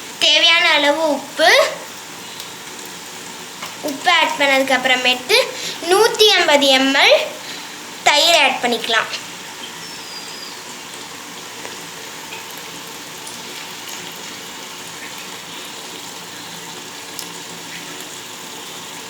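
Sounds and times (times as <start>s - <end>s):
chicken sizzling in a pot: 0.0s - 19.0s.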